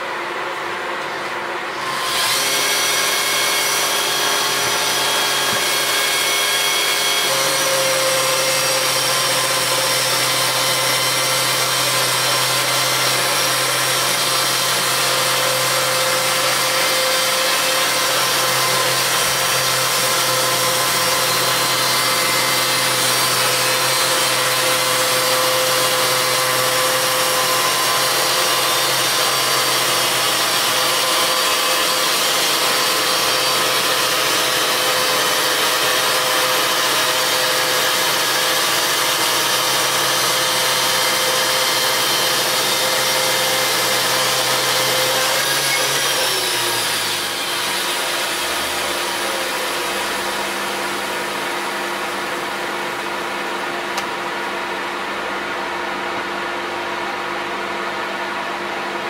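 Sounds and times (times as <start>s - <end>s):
chainsaw mill cutting log: 1.7s - 54.4s.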